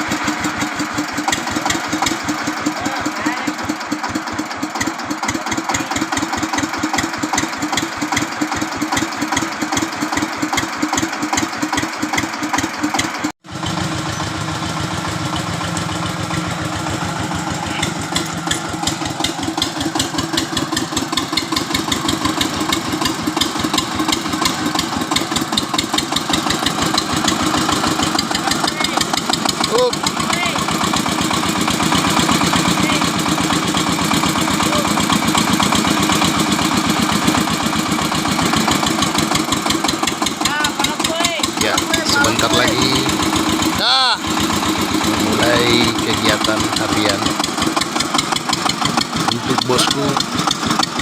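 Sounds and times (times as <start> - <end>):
engine chugging: 0.0 - 51.0.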